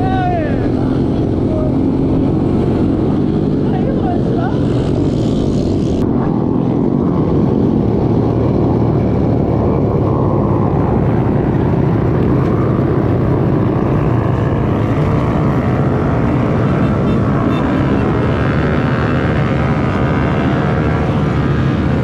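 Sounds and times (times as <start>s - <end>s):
mini motorcycle engines droning: 0.0s - 22.0s.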